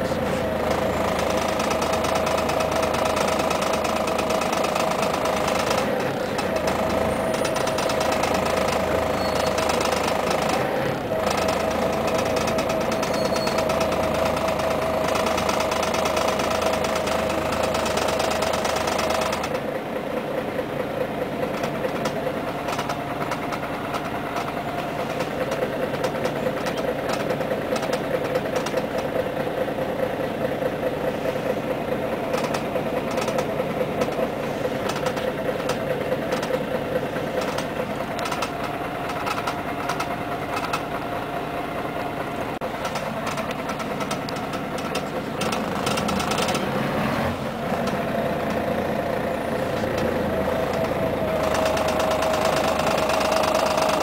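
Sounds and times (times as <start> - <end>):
bus engine droning with whine: 0.0 - 54.0.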